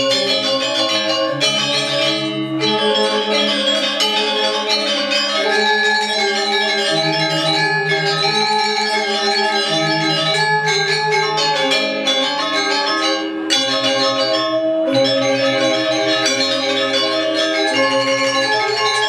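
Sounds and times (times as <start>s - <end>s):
gamelan music: 0.0s - 19.0s.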